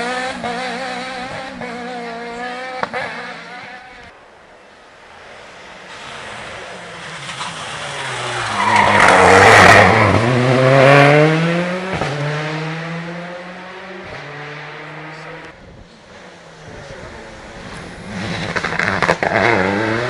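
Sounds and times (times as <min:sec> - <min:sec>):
rally car passing at speed: 0:00.0 - 0:04.1, 0:04.9 - 0:20.0.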